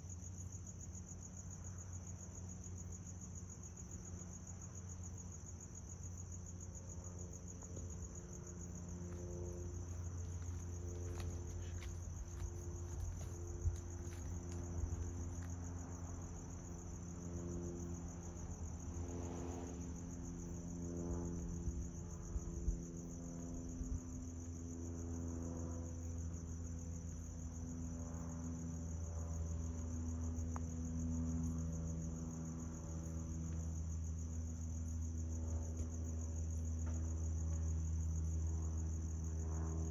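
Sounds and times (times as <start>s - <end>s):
crickets trilling: 0.0s - 39.9s
low hum: 6.1s - 39.9s.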